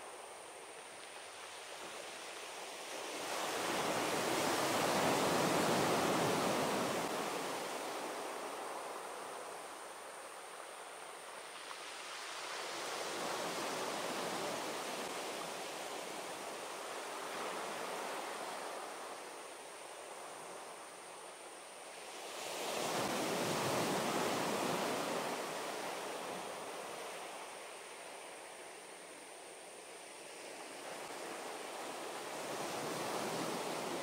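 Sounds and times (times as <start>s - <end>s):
sea waves breaking on a beach: 0.0s - 34.0s.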